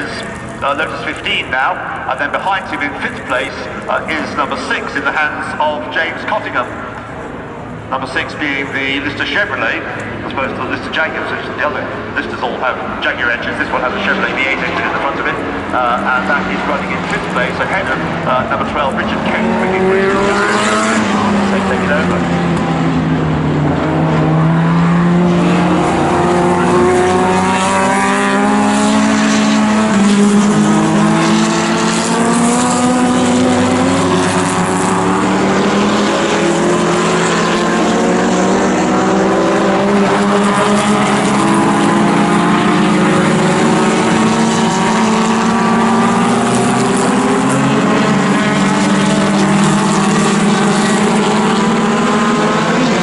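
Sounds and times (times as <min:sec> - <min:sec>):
racing car engines: 0:00.0 - 0:53.0.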